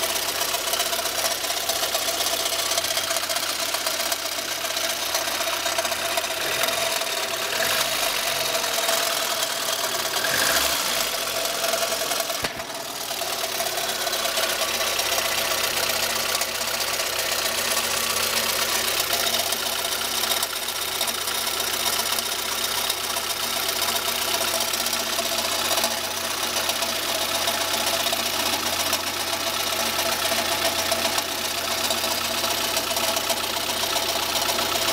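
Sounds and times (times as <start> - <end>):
car engine with ticking rattle: 0.0 - 34.9.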